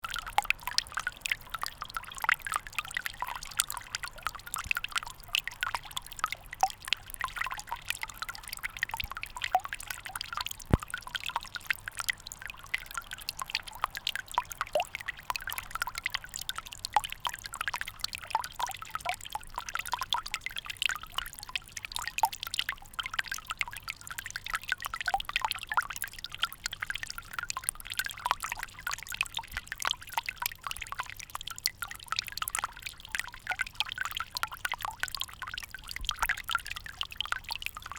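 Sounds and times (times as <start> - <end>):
water dripping: 0.0 - 37.9.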